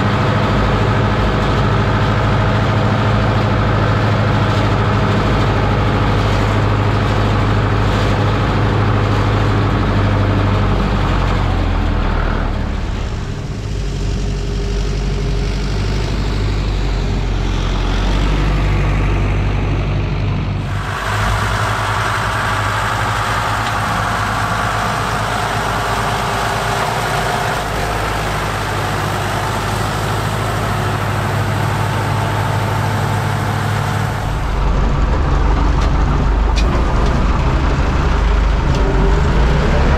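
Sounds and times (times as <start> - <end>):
tractor diesel engine humming: 0.0 - 39.9.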